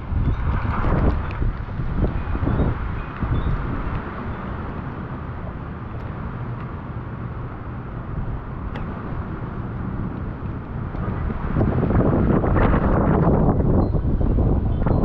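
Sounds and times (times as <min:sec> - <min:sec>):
storm wind: 0:00.0 - 0:15.0.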